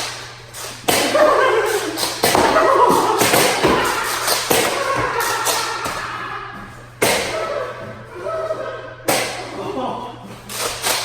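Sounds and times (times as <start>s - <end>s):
raised voices: 1.0s - 10.3s.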